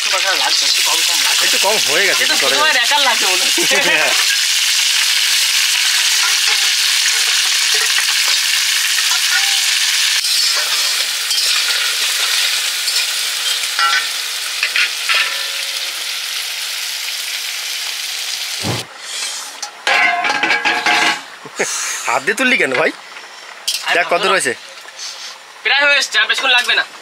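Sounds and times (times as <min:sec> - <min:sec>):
food sizzling in hot oil: 0:00.0 - 0:26.9.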